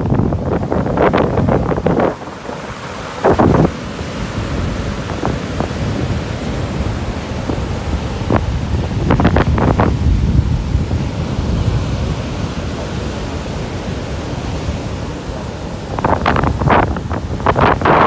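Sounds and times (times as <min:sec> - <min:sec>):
ocean surf rushing: 0:00.0 - 0:18.0
wind buffeting microphone: 0:00.0 - 0:18.0.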